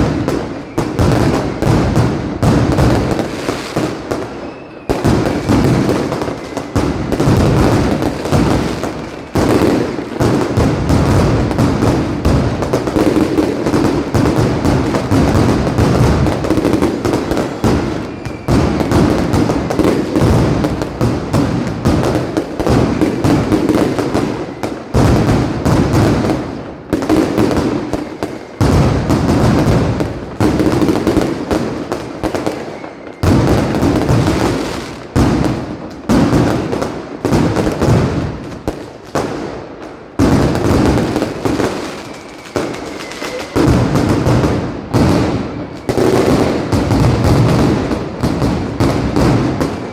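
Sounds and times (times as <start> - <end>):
firecrackers rapid bangs: 0.0 - 49.9.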